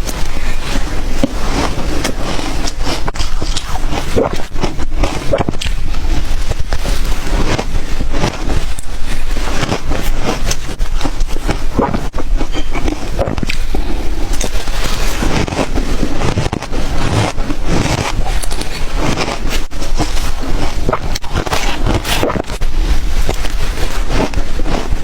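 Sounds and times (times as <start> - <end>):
ice being chewed: 0.0 - 25.0.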